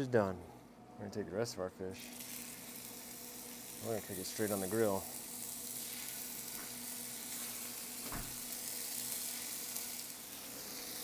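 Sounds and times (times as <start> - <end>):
fish frying in oil: 2.1 - 11.0.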